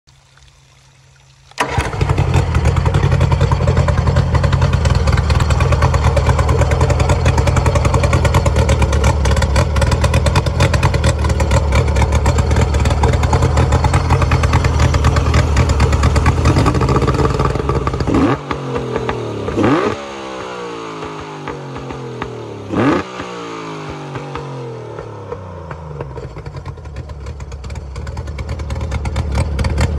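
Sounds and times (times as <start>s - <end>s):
outboard motor running: 1.6s - 23.2s, 23.9s - 29.9s.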